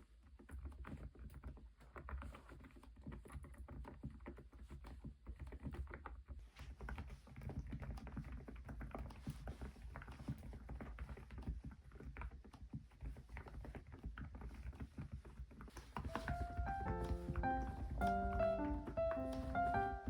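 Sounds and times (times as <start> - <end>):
muted keyboard typing: 0.0 - 20.0.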